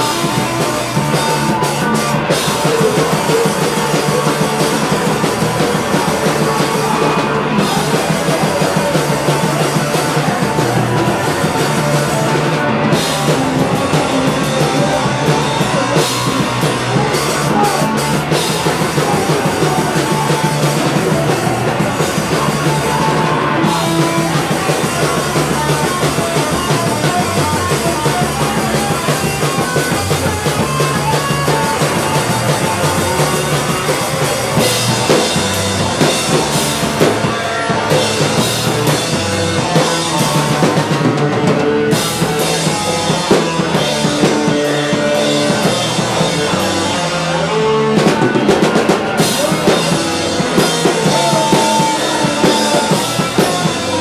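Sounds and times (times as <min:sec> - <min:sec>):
bass drum: 0:00.0 - 0:54.0
live rock band playing: 0:00.0 - 0:54.0.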